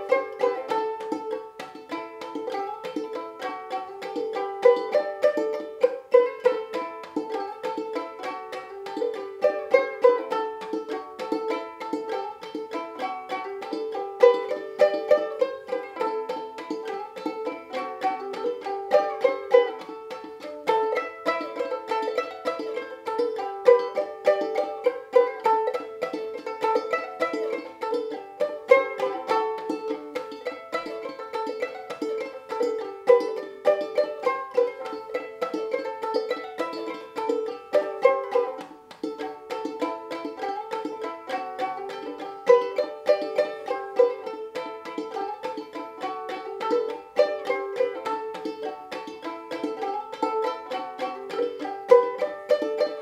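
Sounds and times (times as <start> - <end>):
banjo ukulele plucked melody: 0.0 - 53.0.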